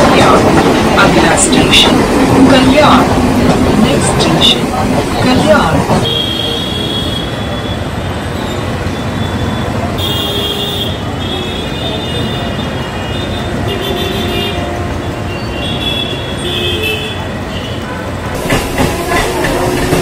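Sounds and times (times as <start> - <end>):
train rumble and rattle: 0.0 - 20.0.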